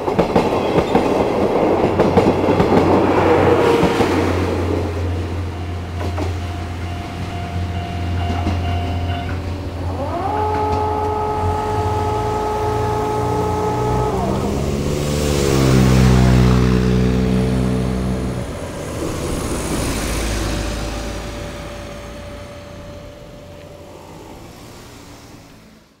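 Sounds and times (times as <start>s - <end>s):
cars driving over level crossing: 1.1s - 26.0s
engine pulling away: 1.4s - 26.0s.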